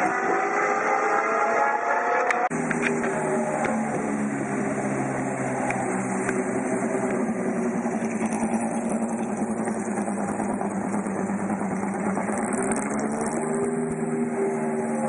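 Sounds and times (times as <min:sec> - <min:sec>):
race car engine at low revs: 0:00.0 - 0:15.0.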